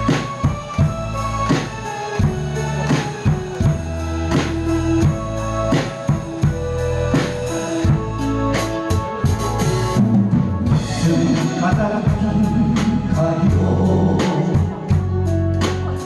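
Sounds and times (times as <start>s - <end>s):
drum kit beat: 0.0s - 16.0s
pop ballad instrumental: 0.0s - 16.0s.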